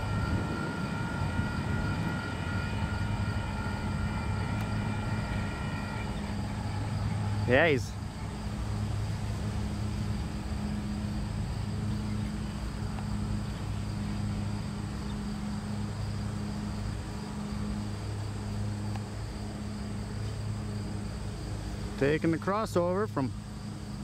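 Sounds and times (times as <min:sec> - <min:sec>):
diesel locomotive engine droning: 0:00.0 - 0:24.0
insects trilling: 0:00.0 - 0:24.0.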